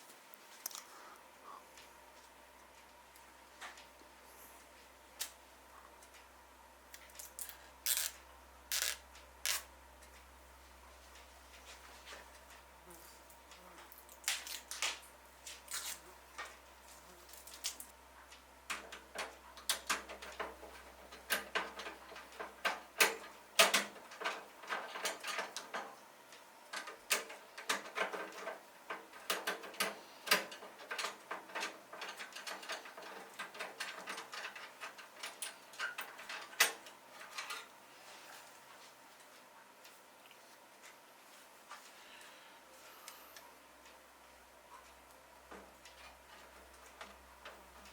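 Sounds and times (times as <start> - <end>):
low steady hum: 0.0 - 47.9.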